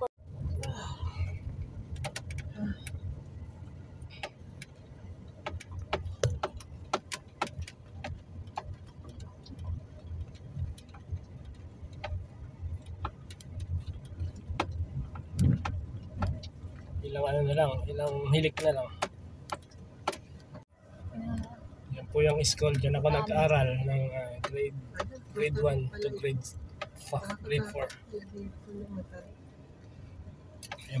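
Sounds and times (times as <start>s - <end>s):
car engine and road rumble: 0.0s - 31.0s
sharp clicks and light rattles: 0.6s - 20.7s, 21.4s - 31.0s.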